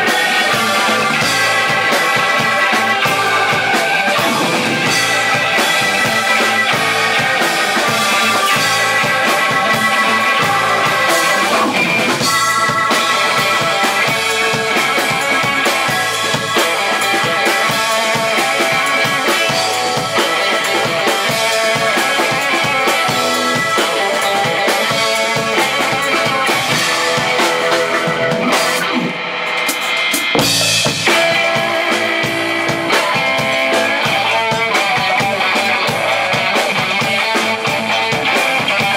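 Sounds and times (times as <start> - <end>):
loud accented band hit: 0.0 - 38.6
live band instrumental: 0.0 - 38.9.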